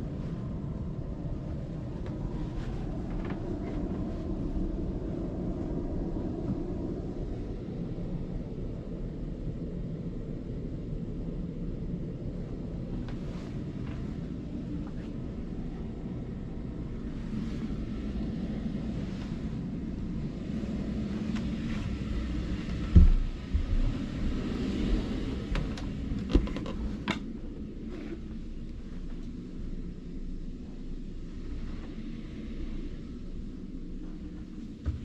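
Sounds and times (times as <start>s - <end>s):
low rumble: 0.0s - 35.0s
wind on microphone: 0.0s - 35.0s.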